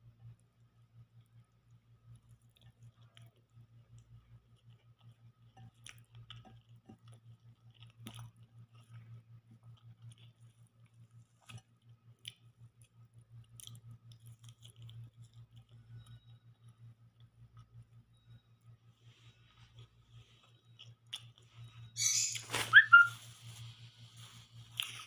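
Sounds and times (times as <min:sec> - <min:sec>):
chewing: 0:01.0 - 0:18.4, 0:19.0 - 0:21.9, 0:24.2 - 0:25.0.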